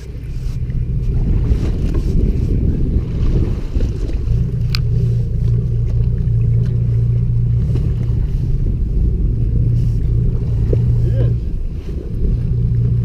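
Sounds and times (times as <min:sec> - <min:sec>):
boat engine droning: 0:00.0 - 0:13.0
wind buffeting microphone: 0:00.0 - 0:13.0.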